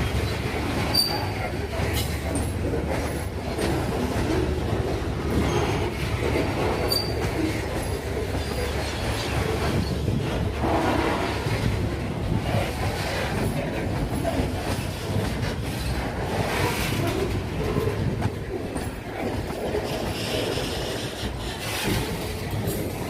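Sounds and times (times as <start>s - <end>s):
train wagons rumbling: 0.0s - 23.0s
wheels clacking over rail joints: 0.0s - 23.0s.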